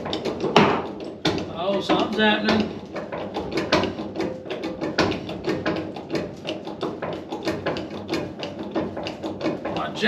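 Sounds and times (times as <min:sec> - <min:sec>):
hydraulic jack pumping clicks: 0:00.0 - 0:10.0.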